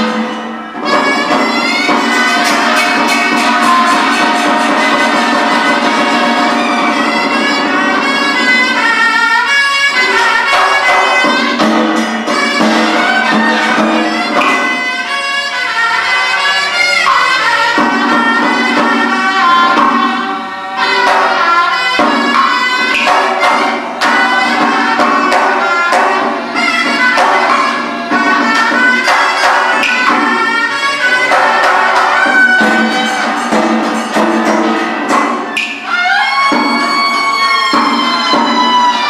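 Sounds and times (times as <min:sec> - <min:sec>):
percussion strikes: 0:00.0 - 0:39.0
reedy wind instrument melody: 0:00.0 - 0:39.0.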